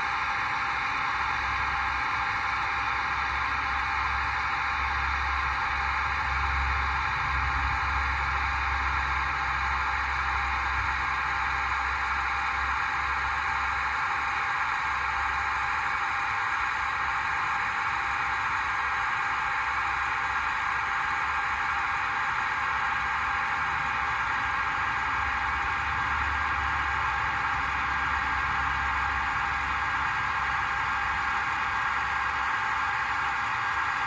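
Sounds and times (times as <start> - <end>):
model crane motors whirring: 0.0 - 34.0.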